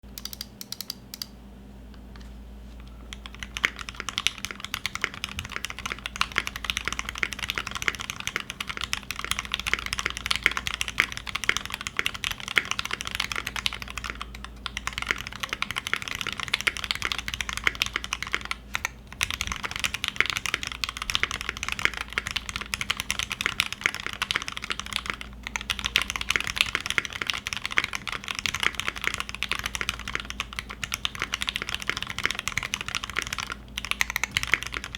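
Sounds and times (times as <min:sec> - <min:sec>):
mechanical keyboard typing: 0:00.1 - 0:01.3, 0:03.1 - 0:34.9.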